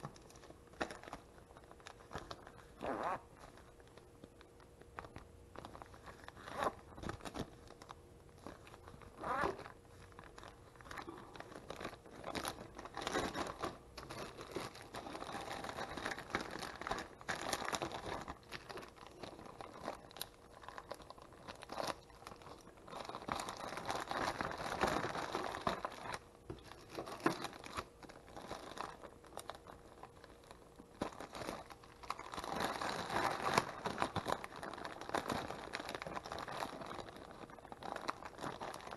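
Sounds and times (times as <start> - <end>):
plastic sheeting crinkling: 0.0 - 38.9.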